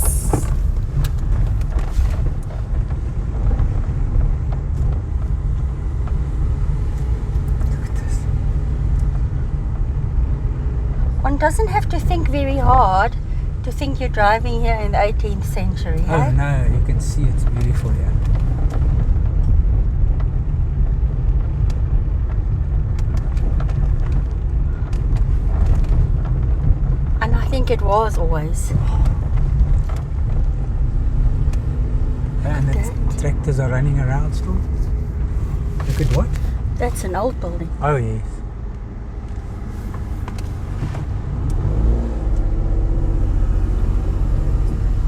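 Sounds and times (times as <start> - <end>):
car driving rumble: 0.0 - 45.0
road noise: 0.0 - 45.0.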